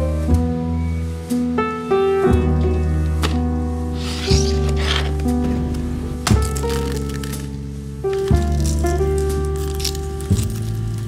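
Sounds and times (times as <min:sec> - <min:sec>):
background music with bass and chords: 0:00.0 - 0:11.0.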